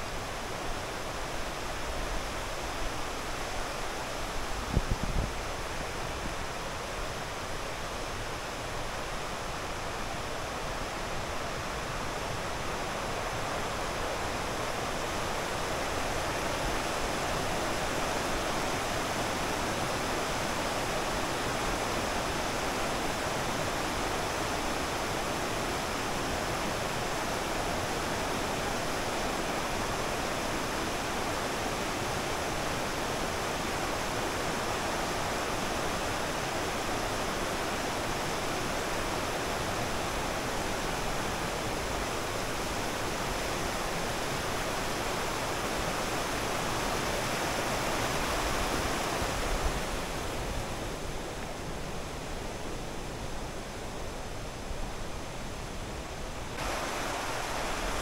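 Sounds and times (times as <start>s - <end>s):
stream of rushing water: 0.0s - 58.0s.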